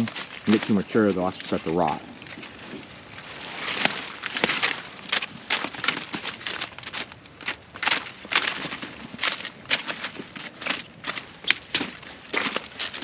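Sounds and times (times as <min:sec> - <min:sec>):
cauliflower leaves snapping: 0:00.0 - 0:13.0
rustling: 0:00.0 - 0:13.0.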